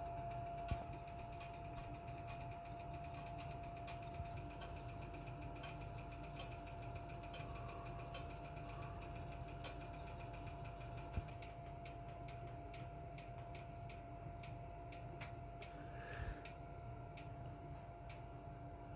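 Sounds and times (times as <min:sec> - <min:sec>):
rapid regular ticking: 0:00.0 - 0:15.8
heater burner rumble: 0:00.0 - 0:18.9
thin steady hum: 0:00.0 - 0:18.9.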